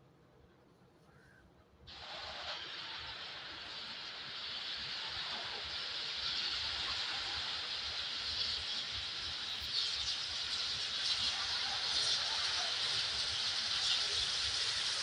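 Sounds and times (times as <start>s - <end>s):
steam locomotive rushing hiss: 1.9s - 15.0s.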